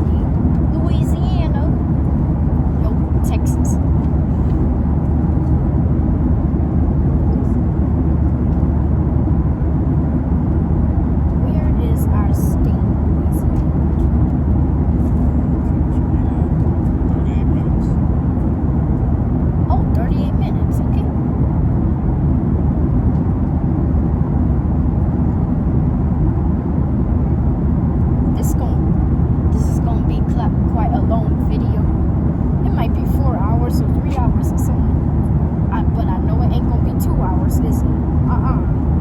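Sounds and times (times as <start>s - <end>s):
airliner cabin drone: 0.0s - 39.0s.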